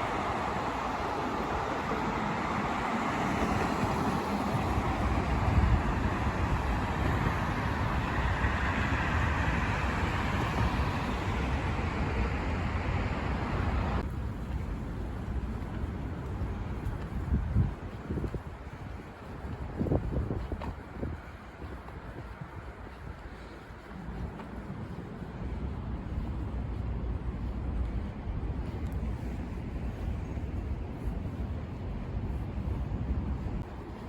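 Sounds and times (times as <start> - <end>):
street traffic rushing: 0.0 - 34.0.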